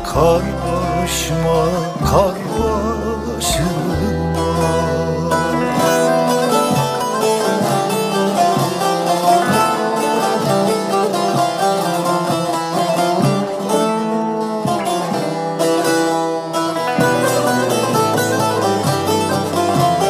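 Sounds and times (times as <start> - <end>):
plucked string folk music: 0.0 - 20.0.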